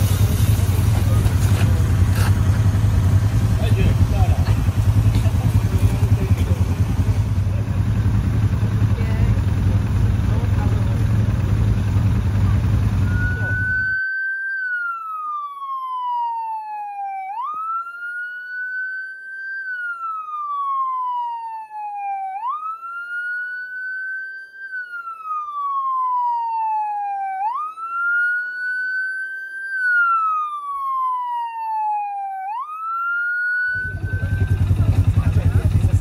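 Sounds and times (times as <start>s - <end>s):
electronic siren wailing: 0.0s - 36.0s.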